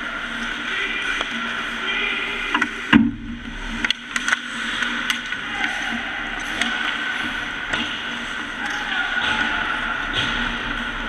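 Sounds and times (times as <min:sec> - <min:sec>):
hockey sticks and puck clacking: 0:00.1 - 0:11.0.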